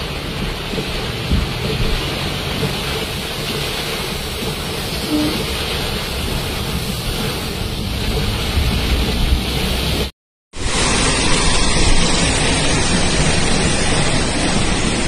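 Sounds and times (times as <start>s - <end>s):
car rumbling on wet road: 0.0s - 10.1s, 10.8s - 15.0s
heavy rain on car roof: 0.0s - 15.0s.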